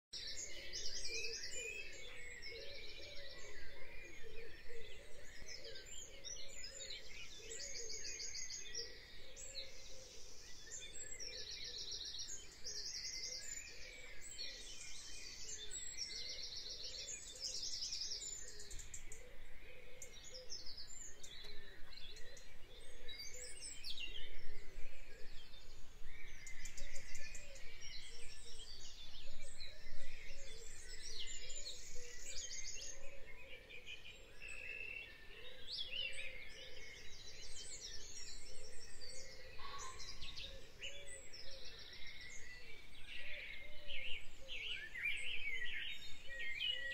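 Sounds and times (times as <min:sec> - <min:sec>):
birds singing: 0:00.2 - 0:46.9.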